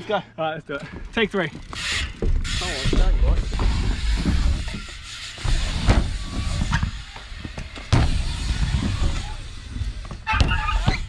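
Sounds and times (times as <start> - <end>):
bike tyres landing on ramps: 1.8 - 11.0.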